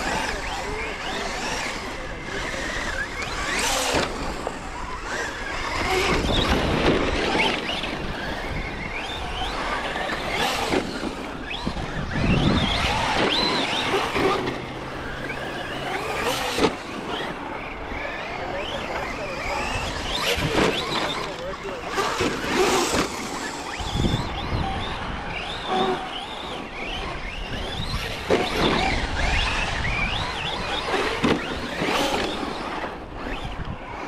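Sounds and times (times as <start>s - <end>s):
electric motors whining: 0.0s - 34.0s.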